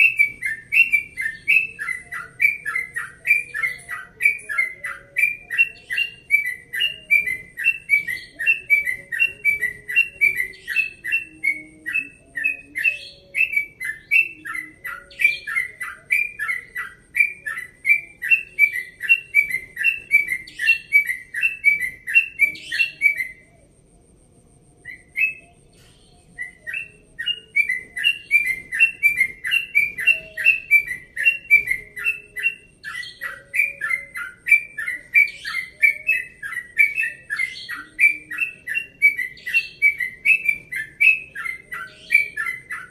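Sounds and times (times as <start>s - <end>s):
bulbul singing whistled notes: 0.0s - 42.9s.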